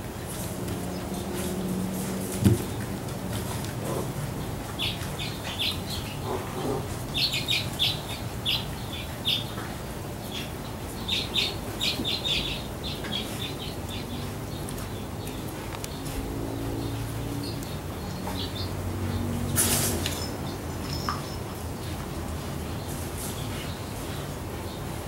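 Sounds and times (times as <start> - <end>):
small birds chirping: 0.7 - 25.0.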